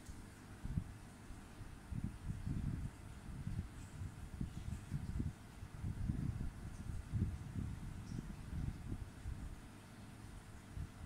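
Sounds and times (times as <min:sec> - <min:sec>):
wind buffeting the microphone: 0:00.6 - 0:01.0, 0:01.6 - 0:11.0.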